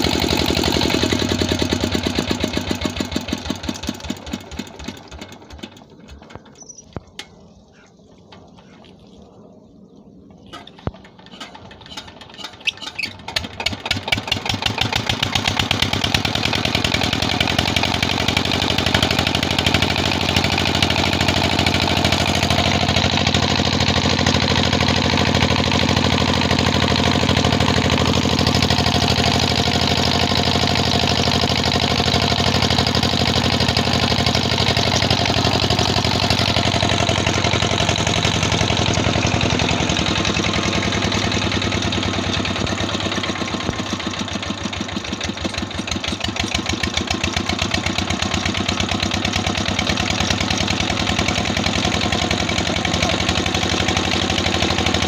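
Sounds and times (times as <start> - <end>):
diesel engine firing beats: 10.5 - 55.0.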